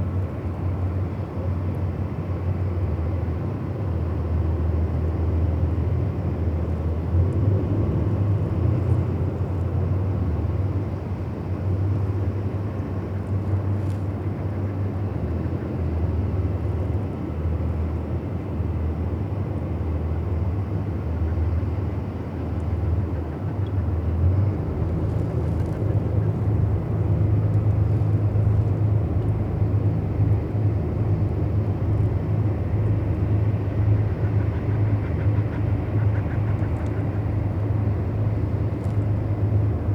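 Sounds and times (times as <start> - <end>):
engine rumble: 0.0 - 39.9.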